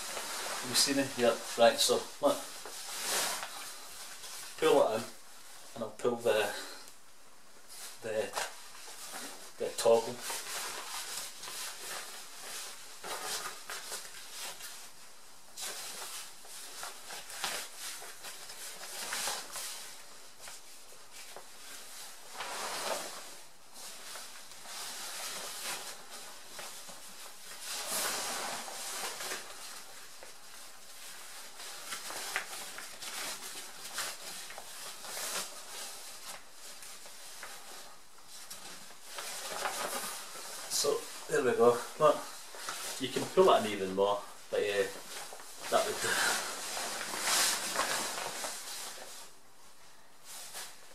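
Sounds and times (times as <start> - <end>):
fabric bag rustling: 0.0 - 5.8, 7.6 - 50.9.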